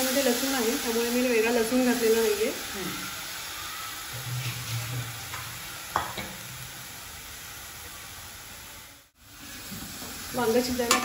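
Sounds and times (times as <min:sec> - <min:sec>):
eggplant sizzling in a pan: 0:00.0 - 0:11.0.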